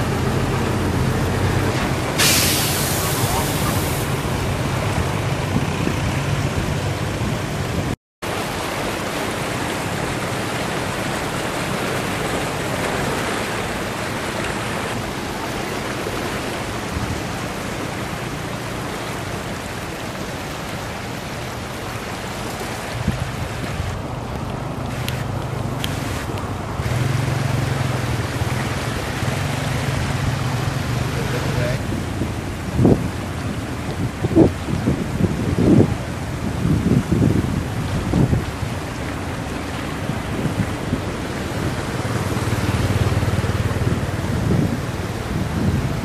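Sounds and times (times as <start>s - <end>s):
floodwater rushing and splashing: 0.0s - 46.0s.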